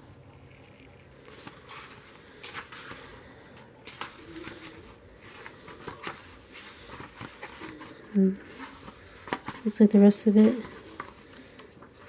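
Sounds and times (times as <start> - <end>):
paper pages turning: 0.5 - 12.0.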